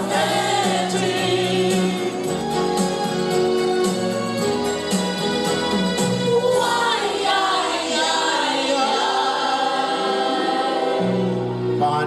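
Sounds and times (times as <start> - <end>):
vocal group singing a ballad: 0.0 - 3.9, 5.2 - 11.8
backing track music: 0.0 - 12.0.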